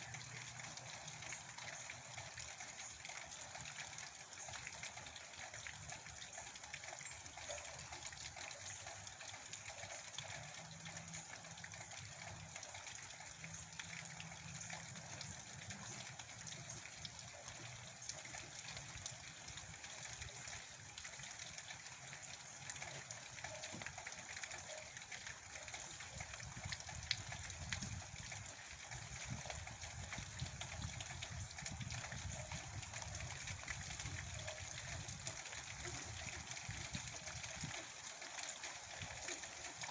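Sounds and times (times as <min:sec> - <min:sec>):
rain falling: 0:00.0 - 0:39.9
water running and pouring: 0:00.0 - 0:39.9.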